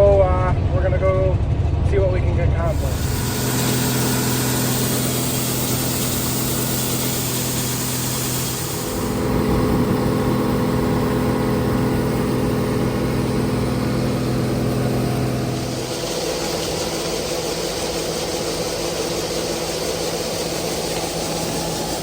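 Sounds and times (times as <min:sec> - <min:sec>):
vehicle engine humming: 0:00.0 - 0:22.0
hiss: 0:02.7 - 0:22.0.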